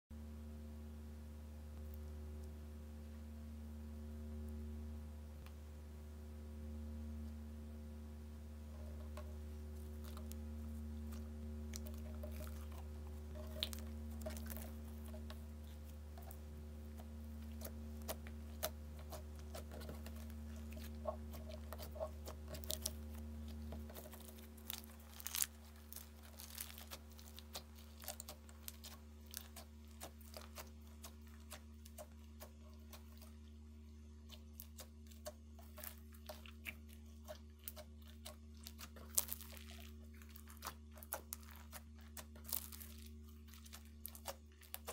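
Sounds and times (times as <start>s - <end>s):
steady low hum: 0.1s - 44.9s
hands squishing slime: 8.7s - 44.9s.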